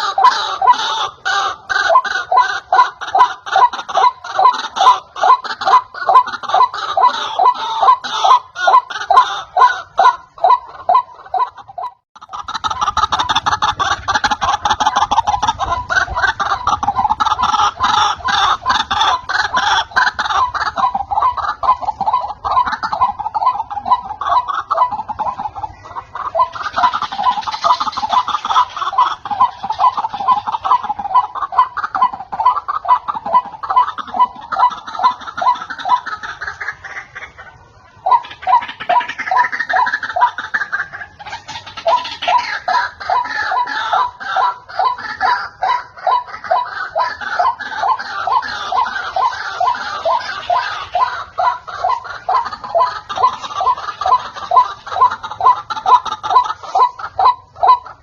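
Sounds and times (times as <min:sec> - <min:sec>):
waterhen calling harsh notes: 0:00.0 - 0:58.0.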